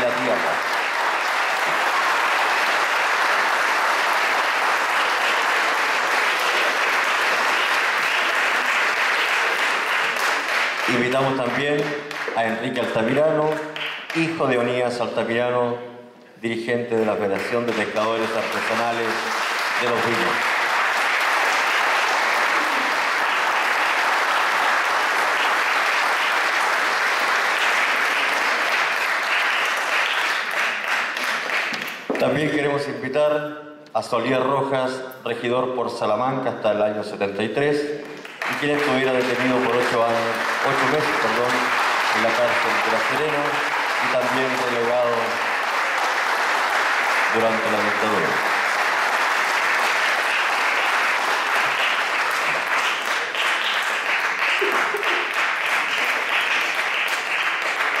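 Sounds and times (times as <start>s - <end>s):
audience applauding: 0.0s - 14.8s, 17.0s - 32.6s, 38.0s - 58.0s.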